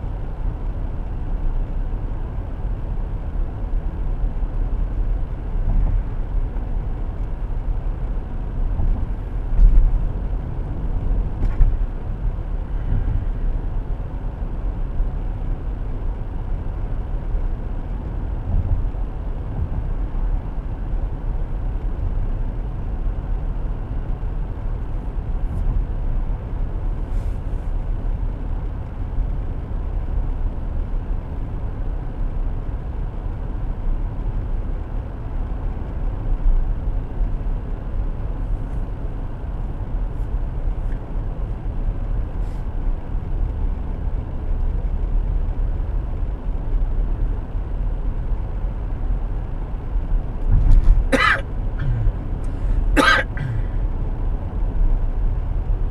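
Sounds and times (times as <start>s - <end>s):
car interior engine and road noise: 0.0s - 55.9s.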